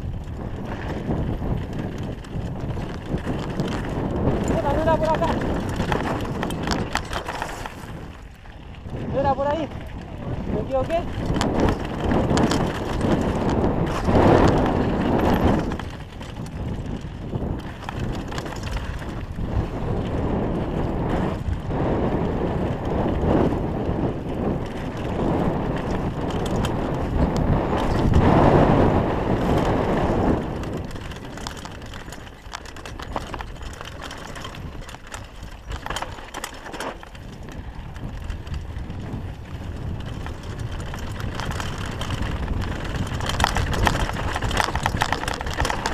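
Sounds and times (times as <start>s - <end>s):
bike rattling over bumps: 0.0s - 45.9s
bike tyres on gravel trail: 0.0s - 45.9s.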